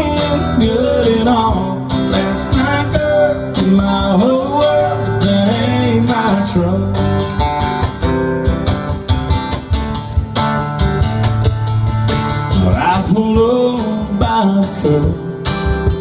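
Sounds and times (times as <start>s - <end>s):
acoustic guitar strumming: 0.0s - 16.0s
cajon beat: 0.0s - 16.0s.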